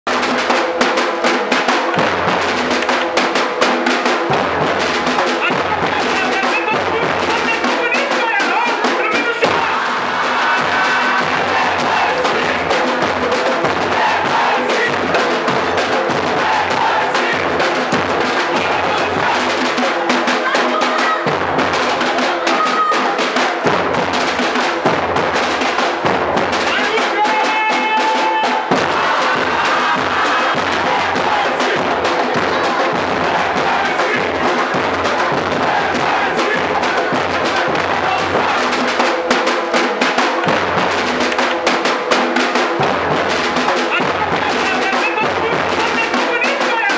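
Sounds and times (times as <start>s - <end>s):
crowd chanting and shouting: 0.0s - 46.9s
drums beating fast rhythm: 0.0s - 46.9s.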